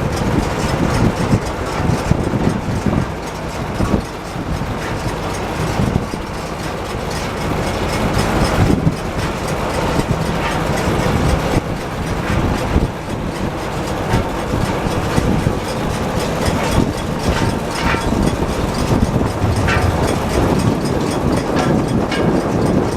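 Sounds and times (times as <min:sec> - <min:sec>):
baler rattling clatter: 0:00.0 - 0:22.9
tractor engine: 0:00.0 - 0:22.9.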